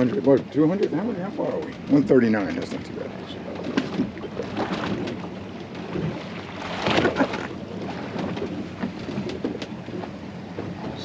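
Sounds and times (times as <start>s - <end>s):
water sloshing against hull: 0.0s - 11.0s
wind buffeting microphone: 0.0s - 11.0s.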